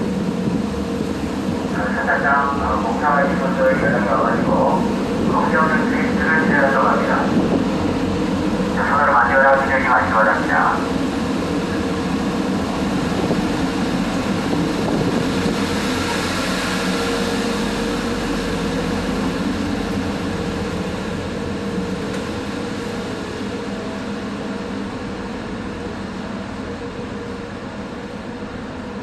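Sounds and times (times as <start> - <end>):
ferry engine droning: 0.0 - 29.0
rushing noise: 0.0 - 29.0.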